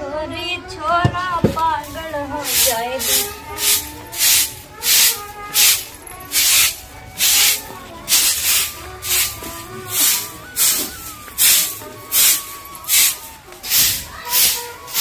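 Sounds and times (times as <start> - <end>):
broom sweeping cement floor: 1.5 - 15.0.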